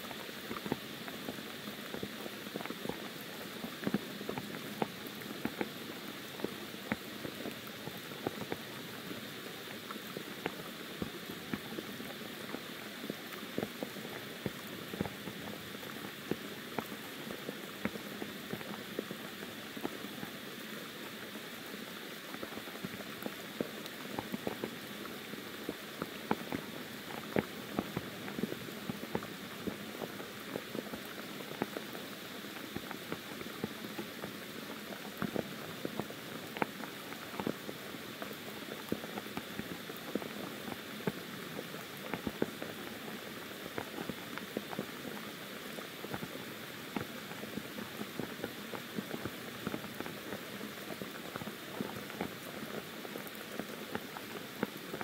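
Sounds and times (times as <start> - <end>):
rain pattering on foliage: 0.0 - 55.0
raindrops ticking: 0.1 - 55.0.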